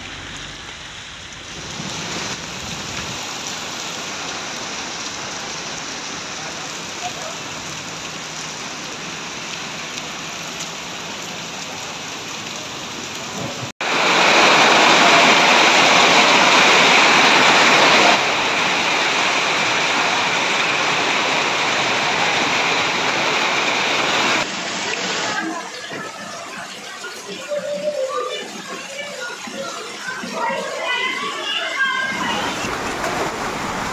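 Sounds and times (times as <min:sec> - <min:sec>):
heavy rain and hail: 0:00.0 - 0:33.9.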